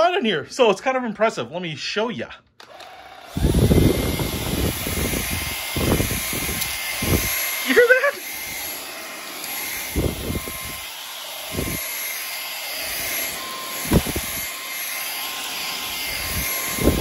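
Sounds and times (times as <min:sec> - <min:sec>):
vacuum cleaner whirring: 0:02.6 - 0:17.0.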